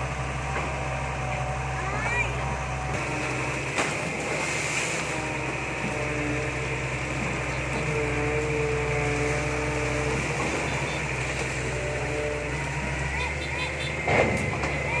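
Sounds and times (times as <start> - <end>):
excavator diesel engine running: 0.0 - 15.0
hydraulic whining tone: 0.0 - 15.0.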